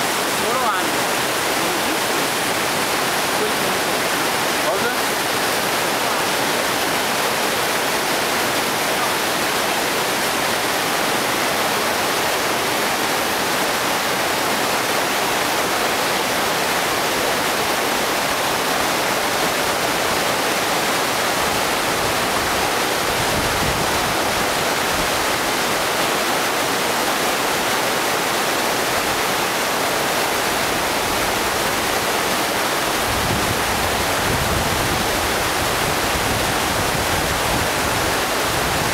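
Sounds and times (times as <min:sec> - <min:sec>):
river water roaring: 0:00.0 - 0:38.9.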